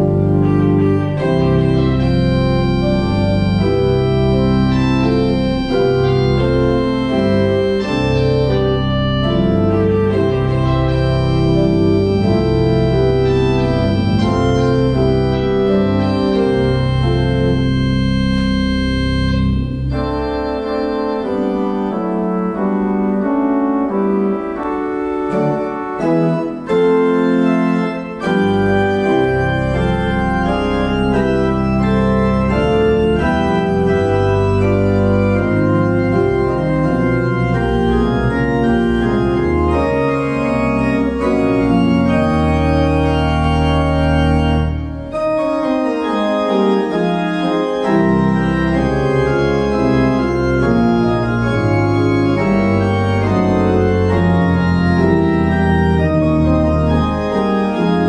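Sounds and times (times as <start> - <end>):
deep organ pedal bass notes: 0.0 - 58.0
pipe organ chords: 0.0 - 58.0.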